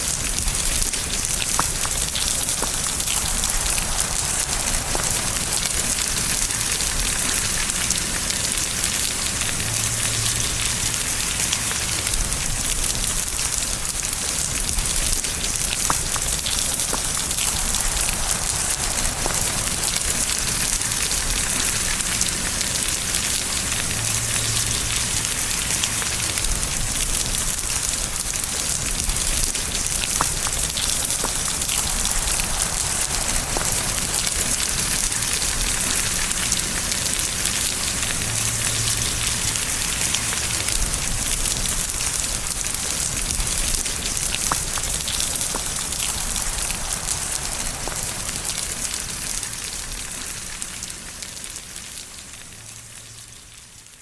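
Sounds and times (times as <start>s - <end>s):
raindrop ticks: 0.0s - 53.9s
steady rain hiss: 0.0s - 54.0s.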